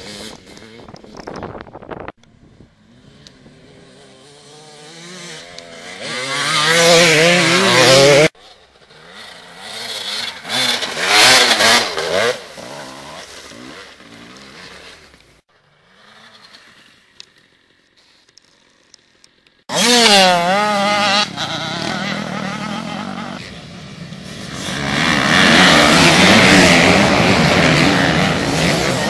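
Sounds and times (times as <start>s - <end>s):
dirt bike engine revving: 0.0s - 2.0s, 2.6s - 17.0s, 19.7s - 29.0s.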